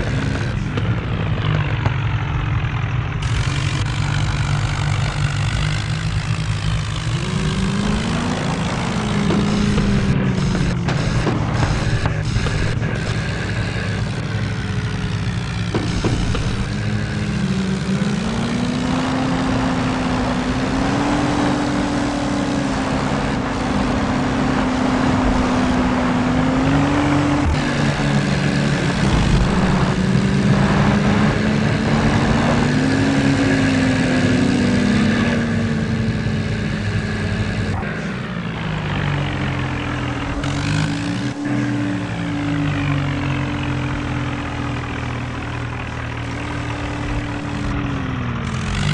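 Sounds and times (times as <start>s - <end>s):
diesel tractor engines revving: 0.0s - 48.9s.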